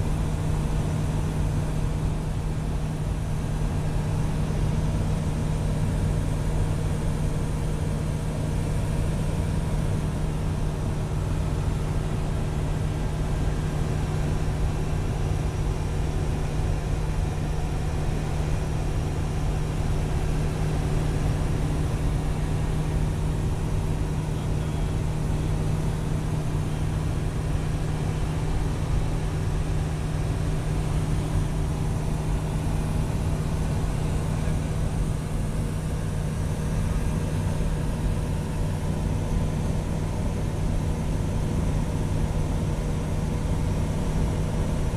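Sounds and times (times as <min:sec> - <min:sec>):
light aircraft engine droning: 0:00.0 - 0:44.9.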